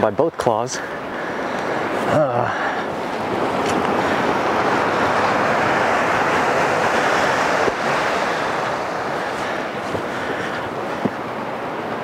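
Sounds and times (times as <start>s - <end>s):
surf washing against rocks: 0.0s - 12.0s.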